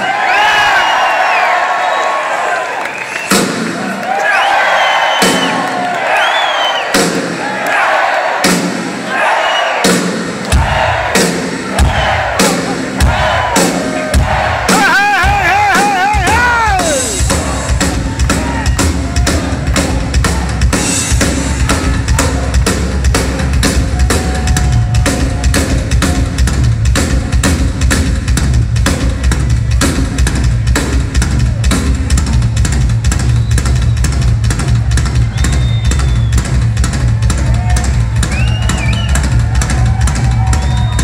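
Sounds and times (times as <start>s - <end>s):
rock drum kit playing: 3.2s - 4.0s, 5.2s - 5.7s, 6.8s - 7.5s, 8.4s - 9.1s, 9.8s - 41.0s.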